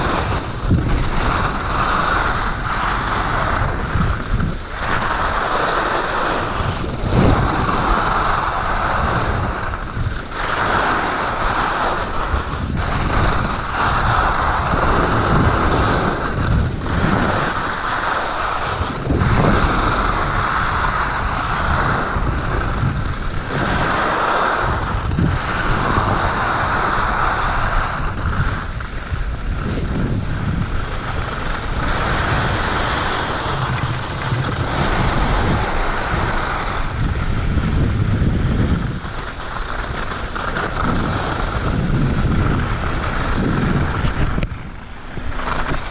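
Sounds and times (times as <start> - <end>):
skis scraping over snow: 0.0 - 45.9
wind on microphone: 0.0 - 45.9.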